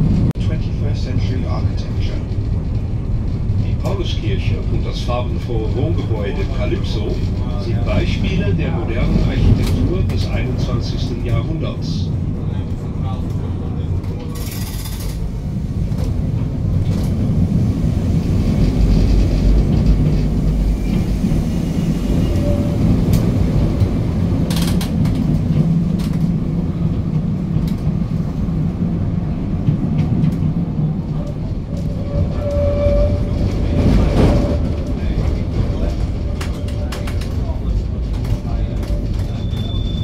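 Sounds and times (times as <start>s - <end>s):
tram wheels rumbling on rails: 0.0s - 40.0s.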